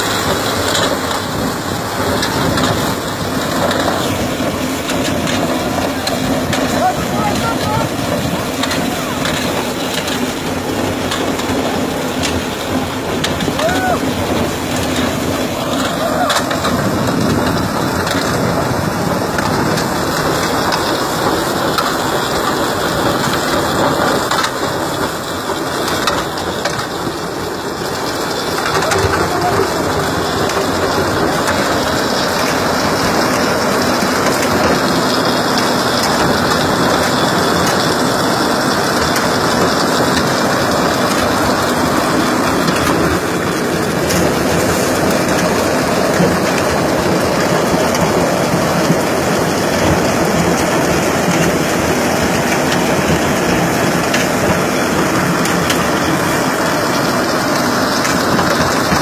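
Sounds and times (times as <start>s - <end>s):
tractor engine hum: 0.0s - 59.0s.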